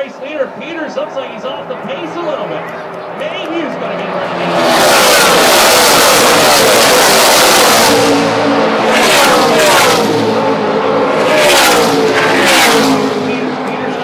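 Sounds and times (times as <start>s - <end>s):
race truck engines passing: 0.0s - 14.0s.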